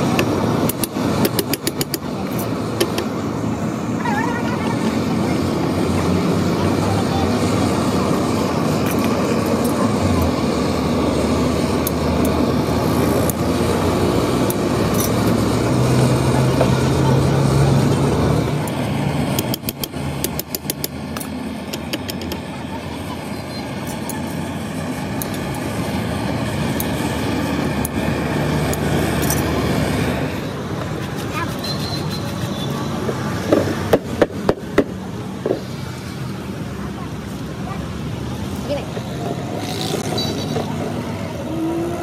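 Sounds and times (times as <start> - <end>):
vehicle engines passing: 0.0 - 42.0.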